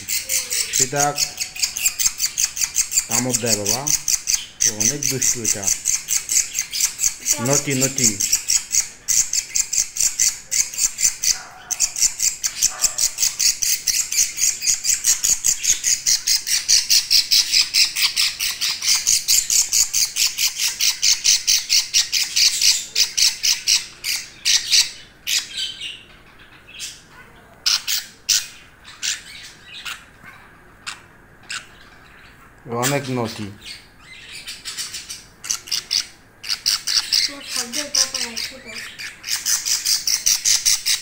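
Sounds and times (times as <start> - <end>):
budgerigar chicks squawking: 0.0 - 41.0.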